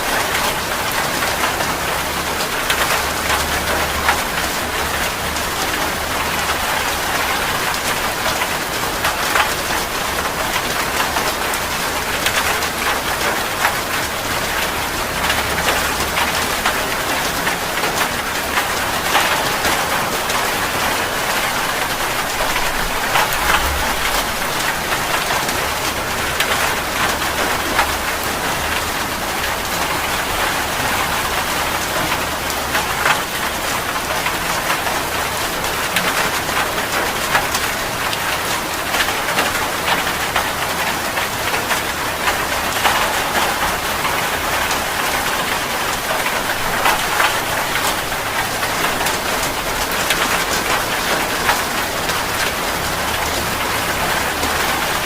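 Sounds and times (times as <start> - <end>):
rain falling: 0.0 - 55.0
raindrops ticking: 0.2 - 55.0.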